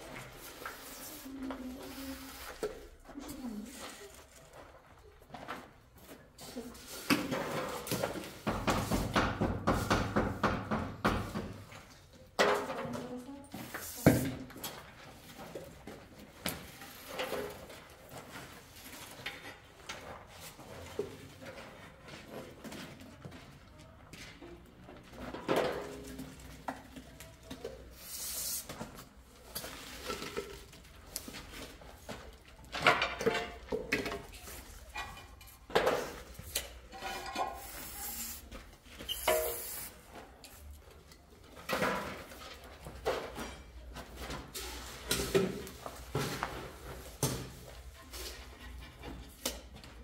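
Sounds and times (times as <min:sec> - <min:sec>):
tiles and tools scraping and knocking: 0:05.6 - 0:23.0, 0:24.7 - 0:50.0.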